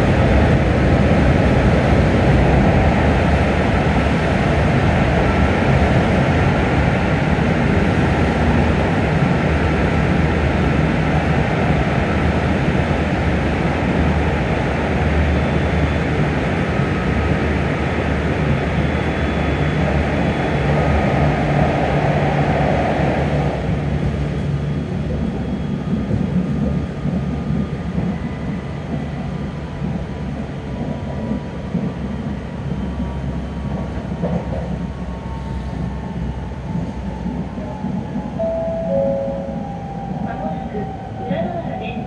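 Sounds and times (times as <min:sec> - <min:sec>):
railcar engine: 0:00.0 - 0:42.0
wheels on rails: 0:00.0 - 0:42.0.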